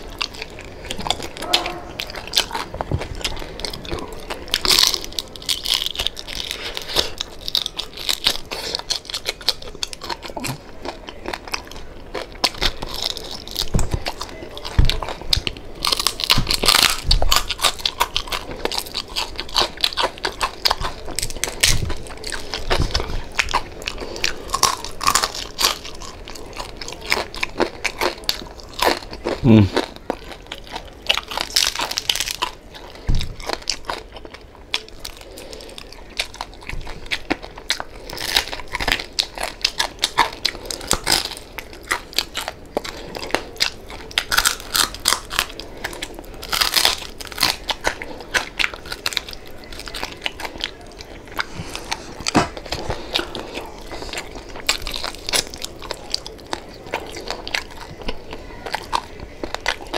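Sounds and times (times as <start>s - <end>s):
person chewing crunchy pork skin: 0.0s - 59.9s.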